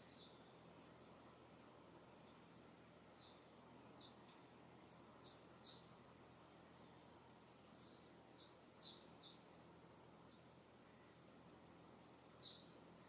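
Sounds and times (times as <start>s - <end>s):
distant small birds chirping: 0.0s - 13.0s.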